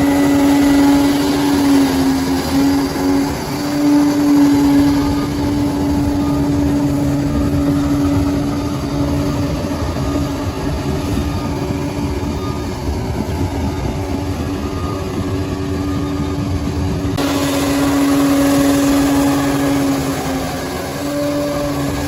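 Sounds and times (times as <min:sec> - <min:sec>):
bulldozer diesel engine rumbling: 0:00.0 - 0:22.0.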